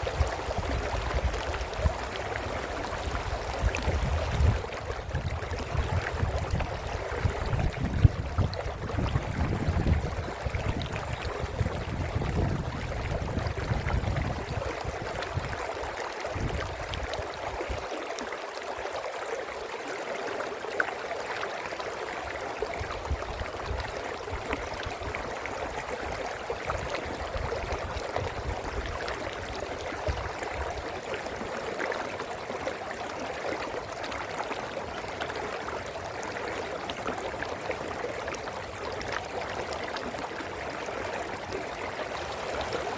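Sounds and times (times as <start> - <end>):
brook water gurgling over stones: 0.0 - 42.9.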